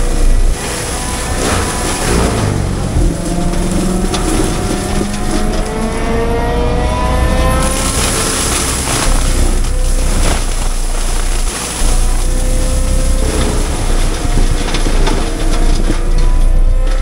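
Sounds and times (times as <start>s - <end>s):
diesel engine running under load: 0.0s - 17.0s.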